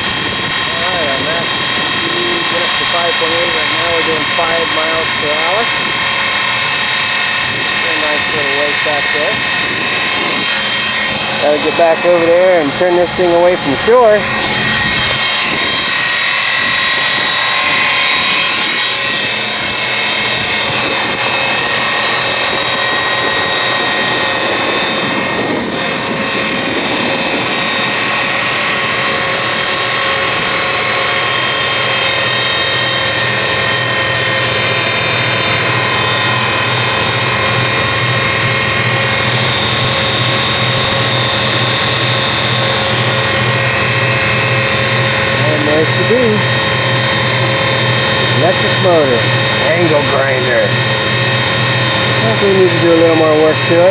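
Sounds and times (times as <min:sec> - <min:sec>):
electric motor high whine: 0:00.0 - 0:53.9.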